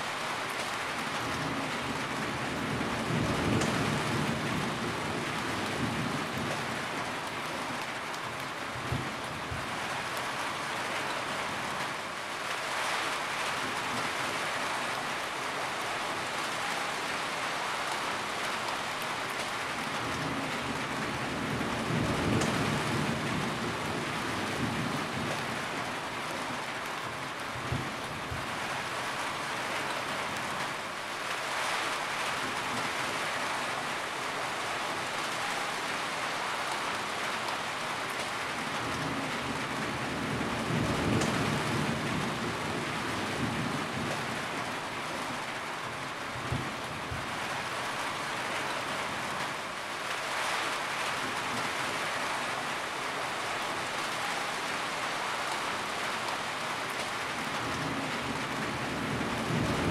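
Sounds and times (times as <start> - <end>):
heavy rain on a corrugated roof: 0.0 - 59.9.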